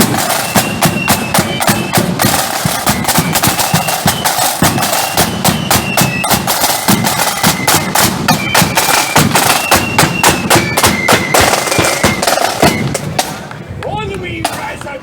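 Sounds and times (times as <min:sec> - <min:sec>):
flute melody: 0:00.0 - 0:13.2
rapid snare drumming: 0:00.0 - 0:13.5.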